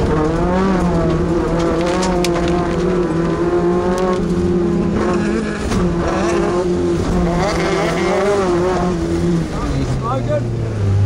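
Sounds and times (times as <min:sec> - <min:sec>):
tyres on rough ground: 0:00.0 - 0:10.5
truck engine at high revs: 0:00.0 - 0:11.0.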